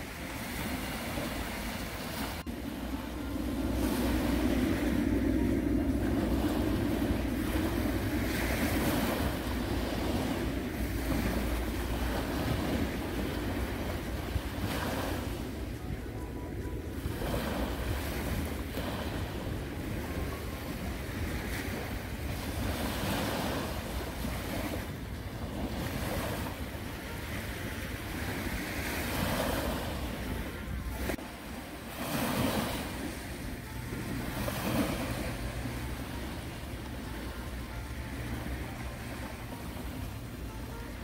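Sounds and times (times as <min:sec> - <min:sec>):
small waves breaking on shore: 0:00.0 - 0:41.0
wind rumbling on microphone: 0:00.0 - 0:41.0.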